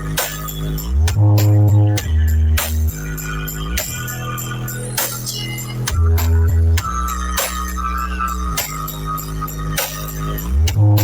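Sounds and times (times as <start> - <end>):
electronic dance music: 0.0 - 11.0
loud bass drop: 0.0 - 11.0.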